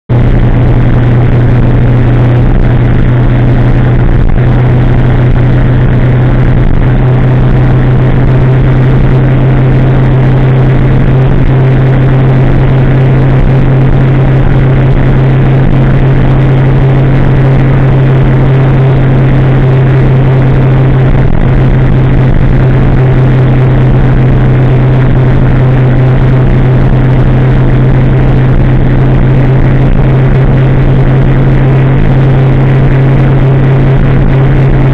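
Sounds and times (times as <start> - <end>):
loud motorcycle engine cruising: 0.1 - 34.9.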